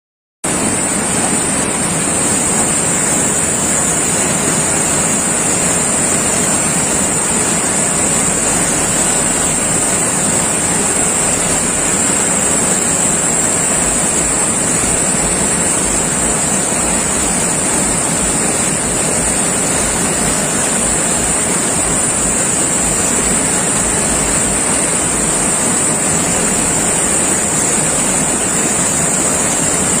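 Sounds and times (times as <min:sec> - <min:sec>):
floodwater rushing: 0:00.5 - 0:30.0
heavy rain: 0:00.5 - 0:30.0.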